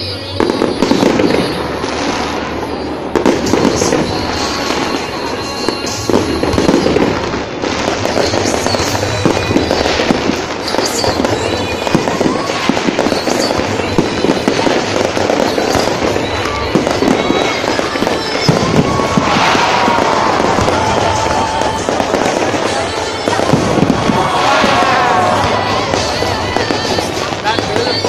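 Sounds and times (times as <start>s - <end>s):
fireworks shells bursting: 0.0s - 28.0s
music playing: 0.0s - 28.0s.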